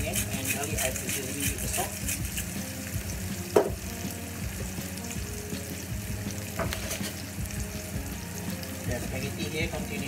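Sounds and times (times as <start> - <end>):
onion sizzling in a pan: 0.0 - 10.0.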